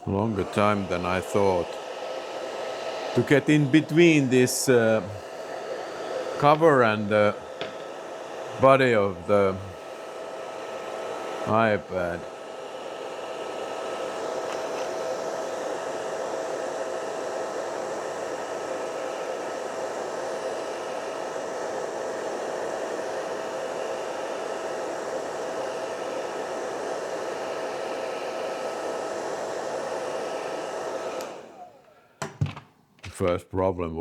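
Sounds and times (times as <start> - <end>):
hair dryer blowing: 0.0 - 32.6.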